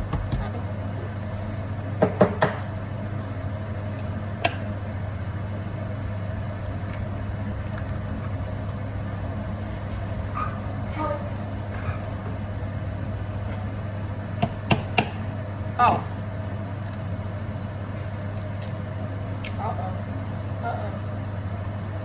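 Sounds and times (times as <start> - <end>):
kitchen appliance hum: 0.0 - 22.0.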